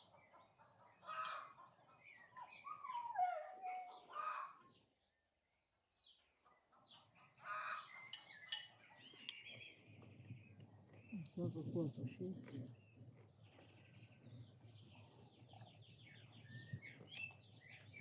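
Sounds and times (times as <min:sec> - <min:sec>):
birds chirping faintly: 0:01.0 - 0:18.0.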